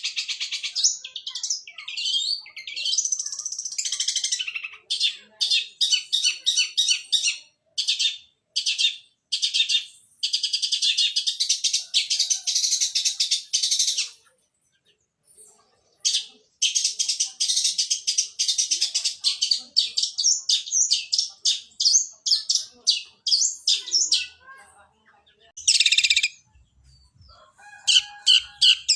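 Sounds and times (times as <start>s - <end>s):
bird singing high chirps: 0.0s - 24.6s, 25.3s - 28.9s.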